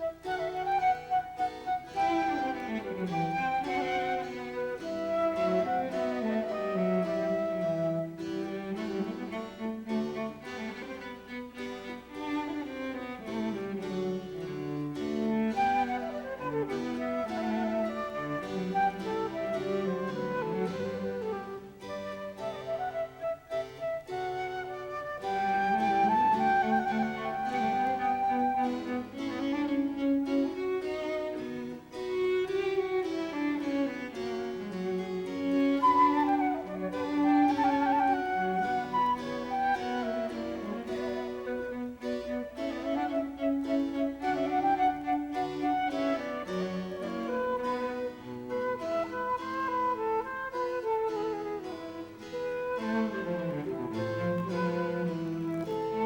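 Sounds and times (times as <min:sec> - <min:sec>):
bowed strings playing slow notes: 0:00.0 - 0:56.0.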